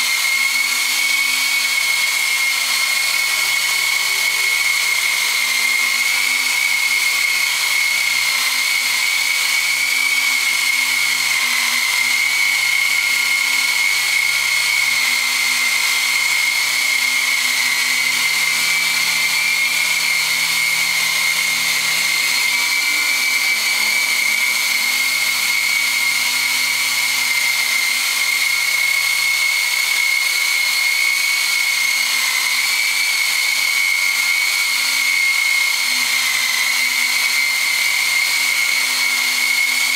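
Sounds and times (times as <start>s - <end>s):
model helicopter motor whine: 0.0s - 39.9s
rotor blades whirring: 0.0s - 39.9s.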